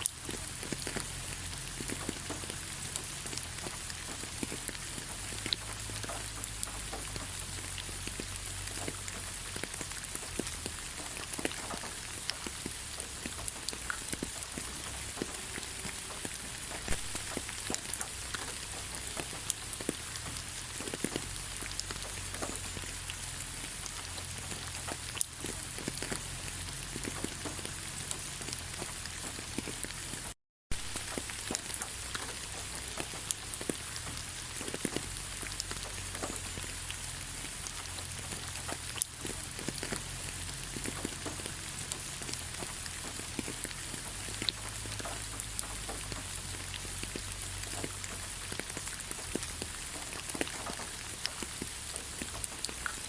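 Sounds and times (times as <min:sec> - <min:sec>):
raindrops ticking on leaves: 0:00.0 - 0:53.0
steady rain hiss: 0:00.0 - 0:53.0.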